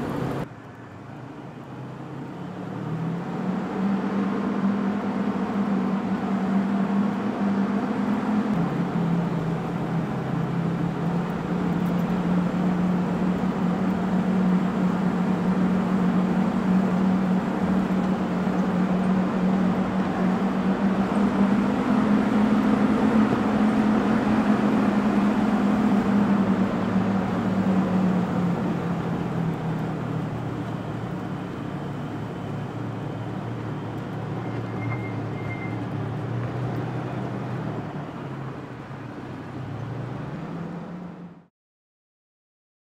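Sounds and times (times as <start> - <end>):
vehicle engine running: 0.0 - 0.5, 1.6 - 41.5.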